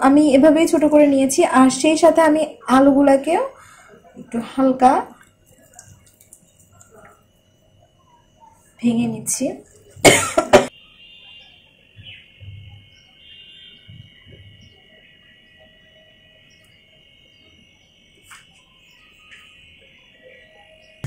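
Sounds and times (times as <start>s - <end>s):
crickets chirring: 3.4s - 21.0s.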